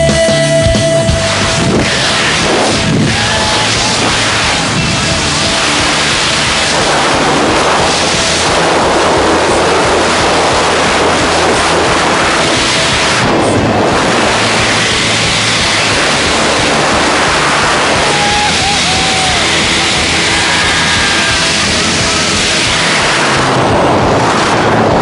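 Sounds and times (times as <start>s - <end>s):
wind rushing across microphone: 1.0s - 25.0s.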